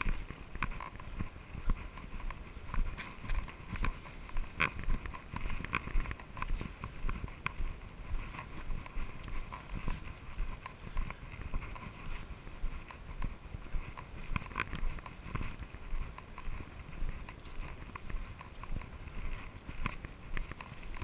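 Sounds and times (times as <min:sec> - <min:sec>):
bike clicks and rattles: 0:00.0 - 0:21.0
wind: 0:00.0 - 0:21.0.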